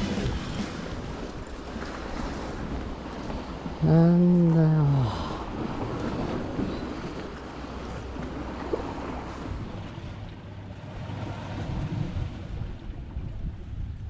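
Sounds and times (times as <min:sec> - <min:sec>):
sea waves on rocky shore: 0:00.0 - 0:14.0
wind buffeting microphone: 0:00.0 - 0:14.0.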